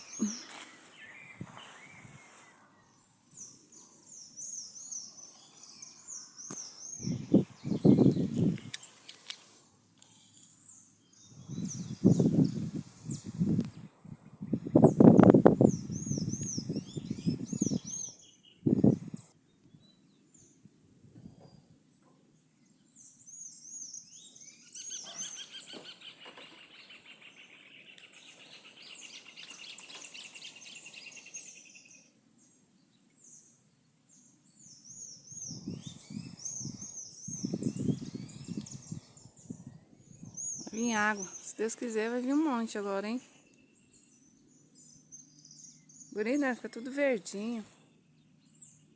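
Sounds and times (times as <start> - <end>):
bird trilling song: 0.0 - 9.4, 10.2 - 20.6, 22.6 - 32.1, 34.1 - 48.9
songbirds chirping: 0.0 - 48.9.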